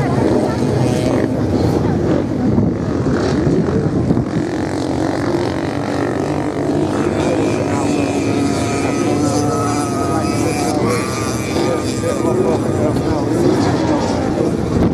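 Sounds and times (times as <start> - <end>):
dirt bike engines droning: 0.0 - 14.9.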